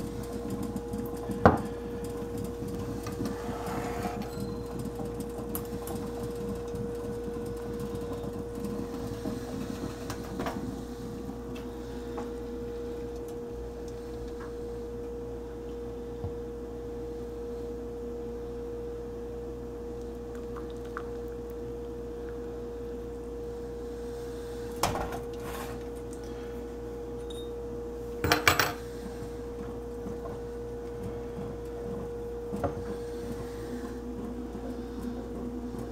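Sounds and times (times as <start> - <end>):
steady hum: 0.0 - 35.9.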